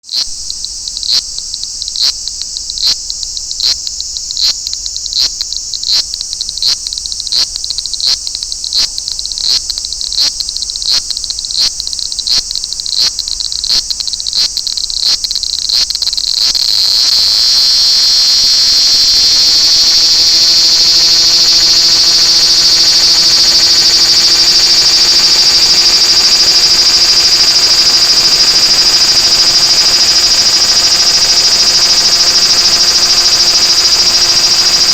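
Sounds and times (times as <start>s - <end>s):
cicada sizzling song: 0.0s - 34.9s.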